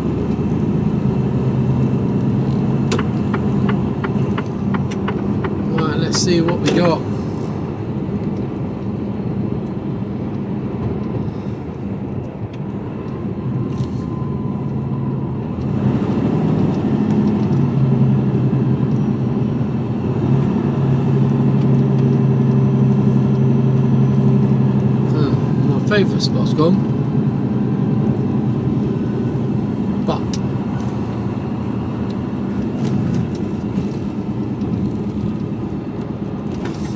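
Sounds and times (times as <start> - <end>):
diesel engine humming: 0.0 - 36.9.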